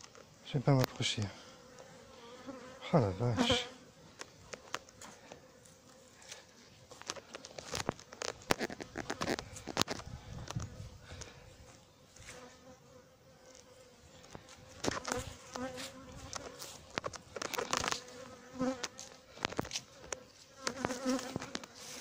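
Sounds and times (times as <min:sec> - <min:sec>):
bees buzzing: 0:00.6 - 0:22.0.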